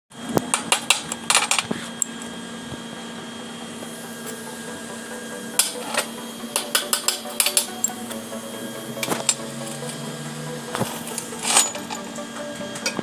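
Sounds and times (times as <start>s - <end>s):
electrical hum: 0.1s - 13.0s.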